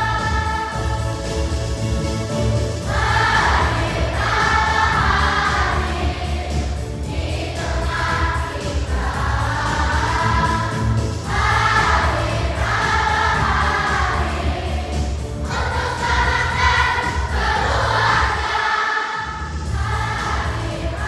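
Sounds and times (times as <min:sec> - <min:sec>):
instrumental backing with bass: 0:00.0 - 0:18.4, 0:19.3 - 0:21.0
children's choir singing: 0:00.0 - 0:21.0.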